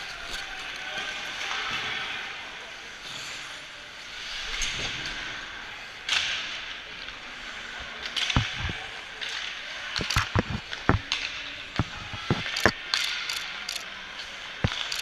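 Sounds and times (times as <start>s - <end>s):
arena noise: 0.0s - 15.0s.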